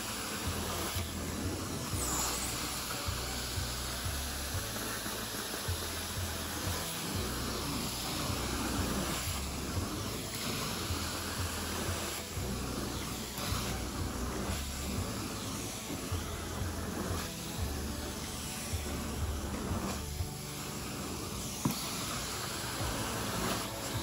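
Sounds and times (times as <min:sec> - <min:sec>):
background music with bass: 0:00.0 - 0:24.0
carpet cleaning wand hissing: 0:00.0 - 0:24.0.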